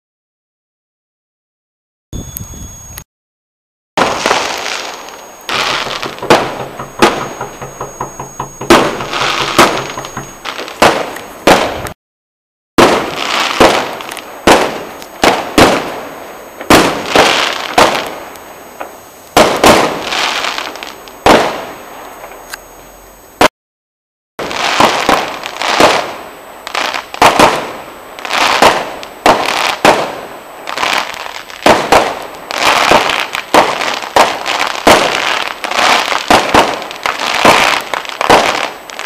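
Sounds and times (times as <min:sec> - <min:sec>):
fireworks bursting with crackle: 0:04.0 - 0:12.0, 0:12.8 - 0:23.5, 0:24.4 - 0:39.0.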